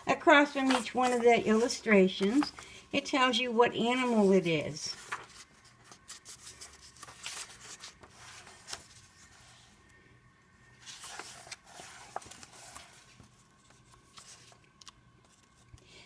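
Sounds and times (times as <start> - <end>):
paper pages rustling: 0.0 - 2.8, 3.8 - 9.6, 10.8 - 15.8.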